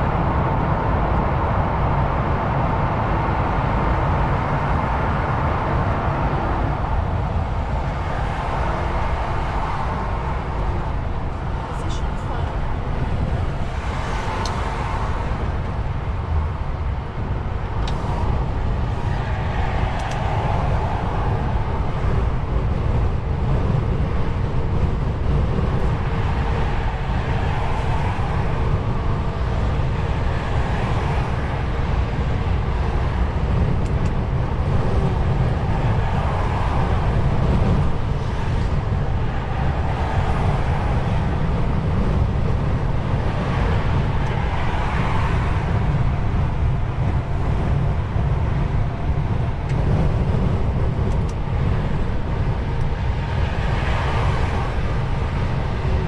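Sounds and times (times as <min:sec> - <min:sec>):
diesel engine rumble: 0:00.0 - 0:56.0
tyre and road noise: 0:00.0 - 0:56.0.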